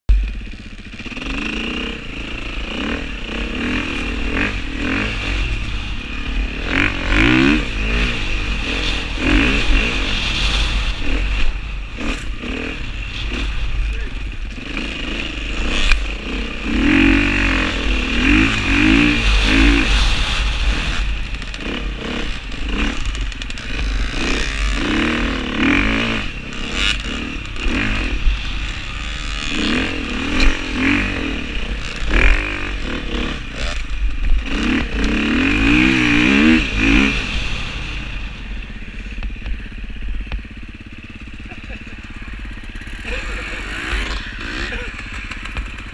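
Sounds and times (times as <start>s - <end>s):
dirt bike engine revving: 0.1s - 45.9s.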